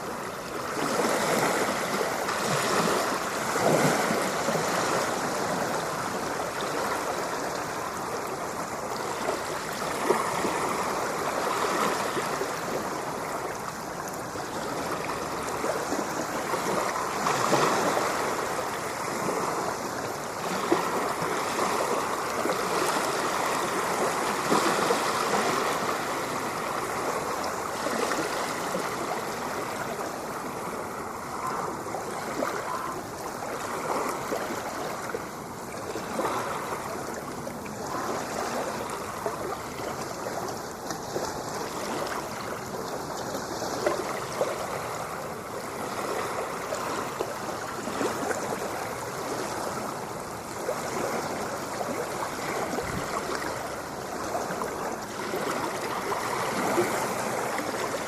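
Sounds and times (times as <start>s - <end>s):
sea water rushing and gurgling: 0.0s - 58.0s.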